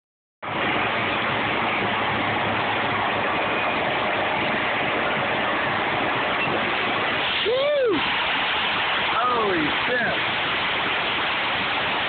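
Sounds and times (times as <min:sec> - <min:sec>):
truck engine rumbling: 0:00.4 - 0:12.0.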